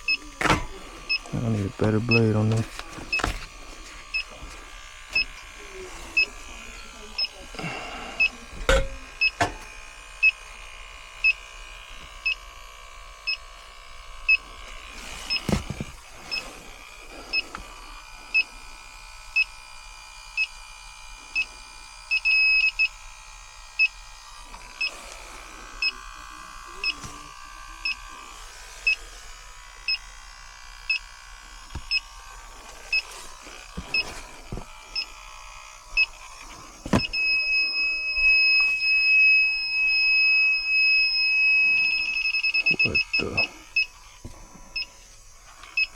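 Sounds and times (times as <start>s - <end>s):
leak detector beeping: 0.0s - 10.6s, 11.2s - 17.7s, 18.3s - 18.6s, 19.3s - 19.6s, 20.4s - 20.6s, 21.3s - 29.0s, 29.8s - 45.9s.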